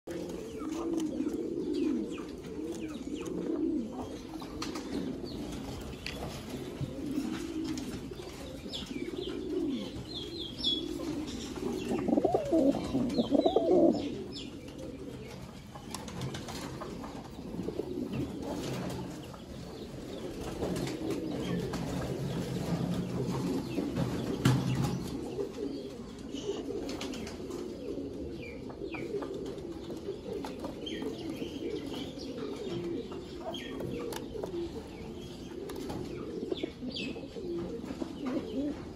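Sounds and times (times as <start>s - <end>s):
pigeons cooing: 0.1s - 38.9s.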